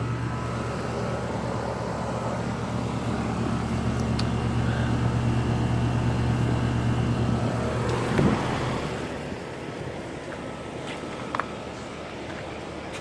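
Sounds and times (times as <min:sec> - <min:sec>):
compressor humming: 0:00.0 - 0:13.0
condenser fan rushing air: 0:00.0 - 0:13.0.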